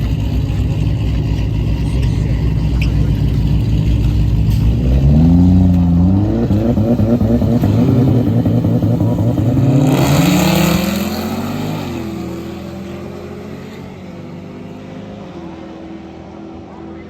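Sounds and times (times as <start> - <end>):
drag car engine accelerating: 0.0 - 17.0.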